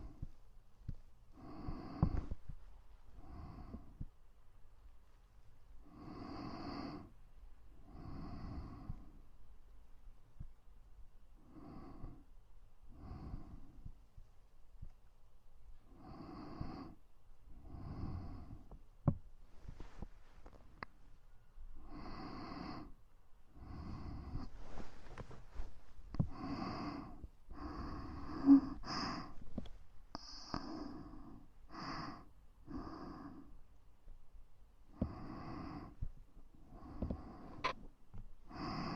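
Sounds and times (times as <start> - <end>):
soft breathing into microphone: 0.0 - 4.3, 5.8 - 9.7, 11.3 - 15.0, 15.8 - 33.7, 34.9 - 38.9.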